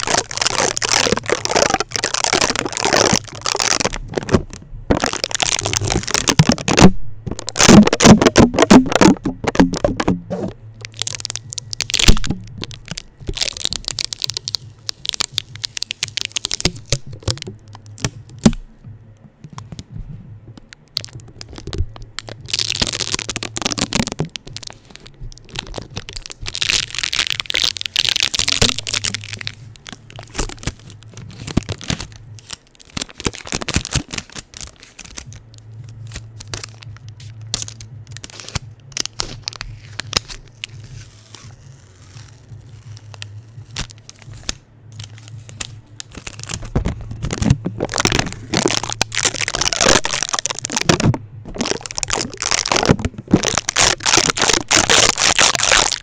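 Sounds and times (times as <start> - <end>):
adhesive tape peeled off microphone: 0.0 - 56.0
low hum: 0.0 - 56.0.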